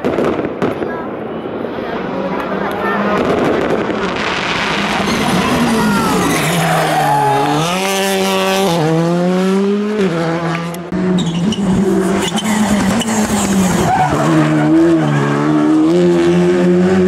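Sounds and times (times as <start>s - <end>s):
rally car engine revving: 2.0s - 17.0s.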